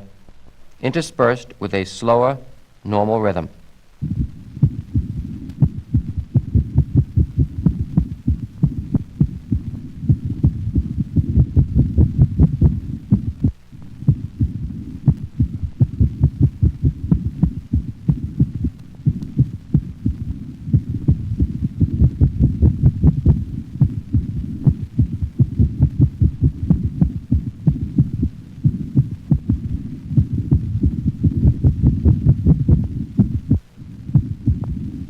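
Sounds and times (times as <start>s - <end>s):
dog heartbeat through stethoscope: 4.0s - 34.9s.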